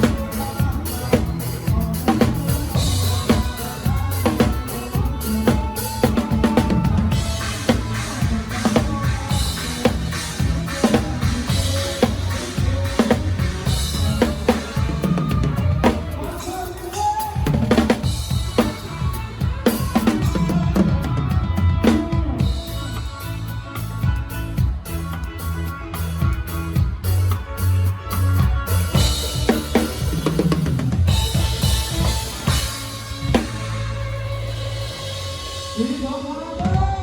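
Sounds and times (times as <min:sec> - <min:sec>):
band playing: 0:00.0 - 0:37.0.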